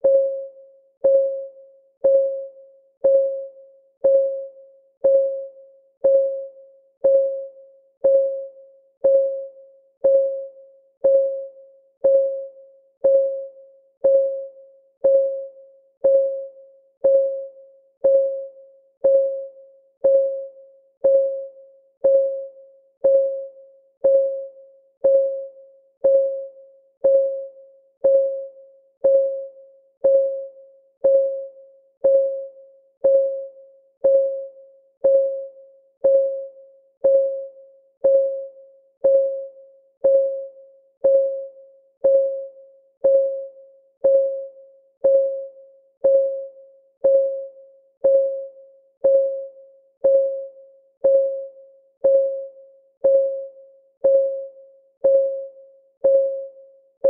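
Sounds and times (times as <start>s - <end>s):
electronic clock ticking: 0.0s - 56.6s.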